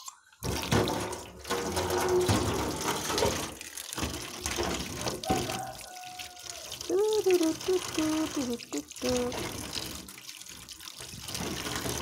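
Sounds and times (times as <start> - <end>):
water running from a tap: 0.4 - 12.0.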